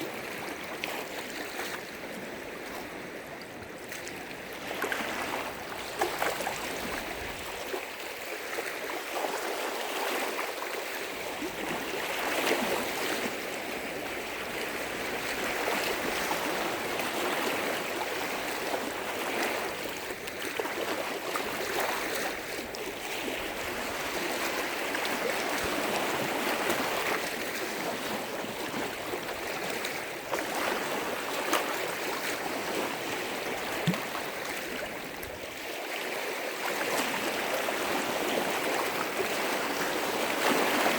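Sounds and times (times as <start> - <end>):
lake waves washing on shore: 0.0 - 40.9.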